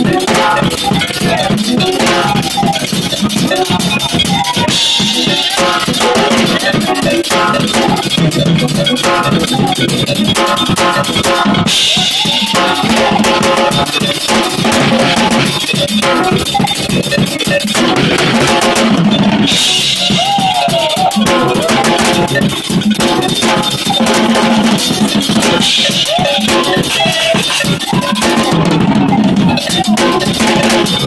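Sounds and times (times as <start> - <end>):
drums and cymbals: 0.0 - 31.0
jazz fusion band playing: 0.0 - 31.0.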